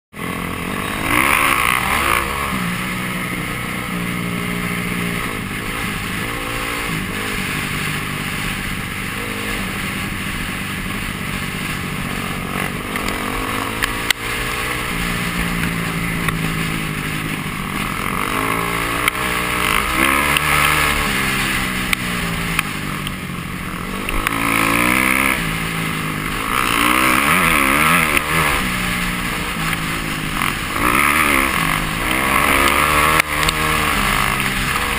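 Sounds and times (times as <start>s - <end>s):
dirt bike engine revving: 0.2s - 34.9s.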